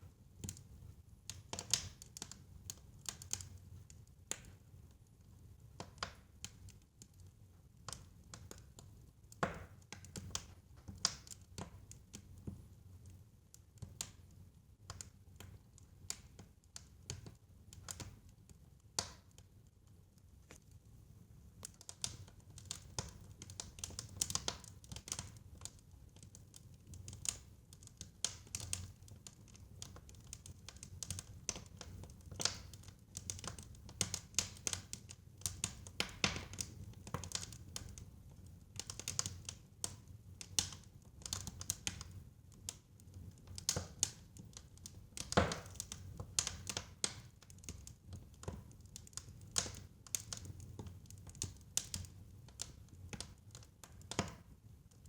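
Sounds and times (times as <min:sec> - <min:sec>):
fireplace fire crackling: 0:00.1 - 0:55.0.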